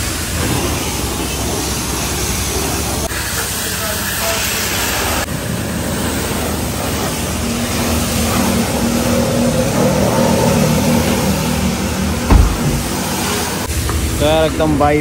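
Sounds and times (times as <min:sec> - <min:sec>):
pressure washer spraying water: 0:00.0 - 0:14.4
pressure washer motor hum: 0:00.0 - 0:14.9.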